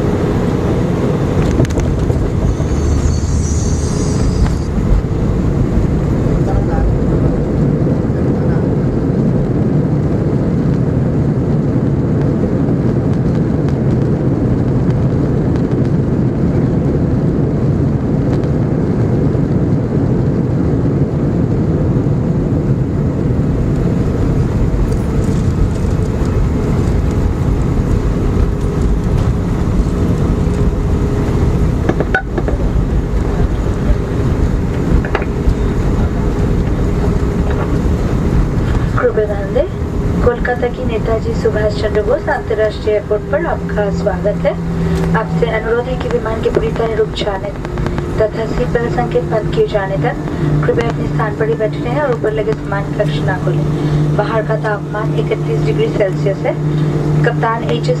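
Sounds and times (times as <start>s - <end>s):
faint steady whine: 0.0s - 9.4s, 20.9s - 58.0s
aircraft engines rumbling in cabin: 0.0s - 58.0s.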